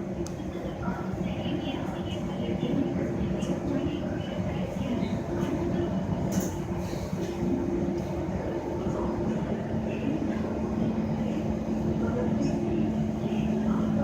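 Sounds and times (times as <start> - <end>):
train cabin noise: 0.0 - 14.0.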